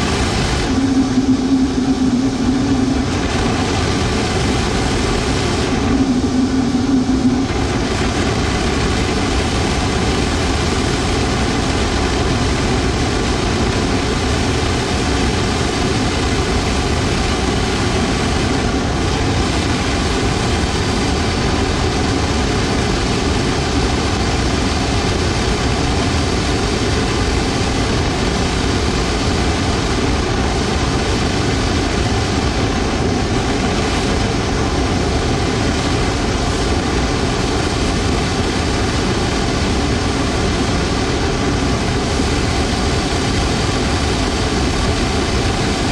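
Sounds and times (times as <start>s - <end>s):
burner roaring: 0.0s - 45.9s.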